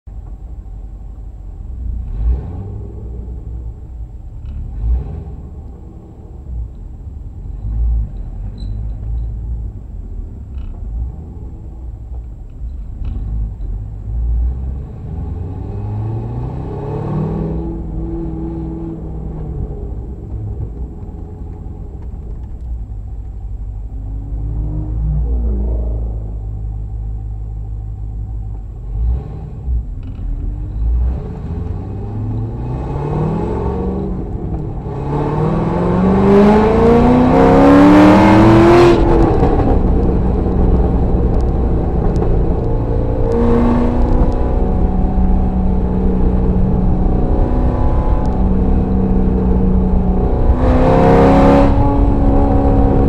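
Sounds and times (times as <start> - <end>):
car engines running: 0.1 - 53.0
steady low rumble: 0.1 - 53.0
car engine accelerating: 0.2 - 53.0.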